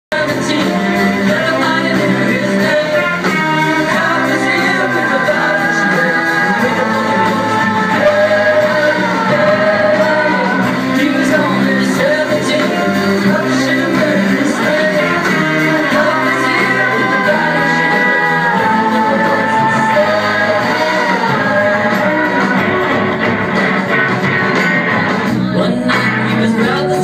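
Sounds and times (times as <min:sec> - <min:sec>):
person singing: 0:00.1 - 0:24.0, 0:25.1 - 0:27.0
electric guitar: 0:00.1 - 0:27.0
live band playing: 0:00.1 - 0:27.0.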